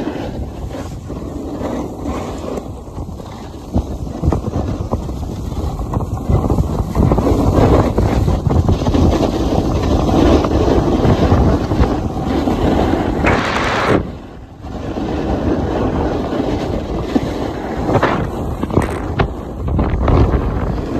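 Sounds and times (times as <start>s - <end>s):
harsh ski scrape: 0.0s - 20.9s
skis hissing over snow: 0.0s - 20.9s
wind buffeting microphone: 0.0s - 20.9s.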